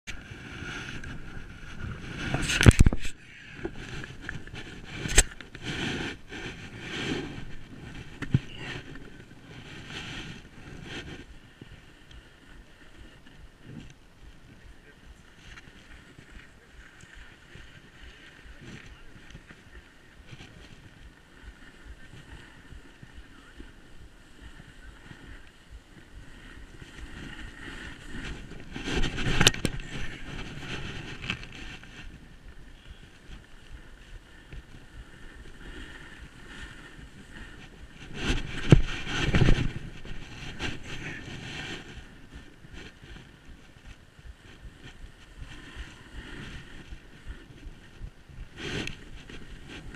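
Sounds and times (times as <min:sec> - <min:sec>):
snowboard scraping over snow: 0:00.1 - 0:49.9
wind on microphone: 0:00.1 - 0:49.9.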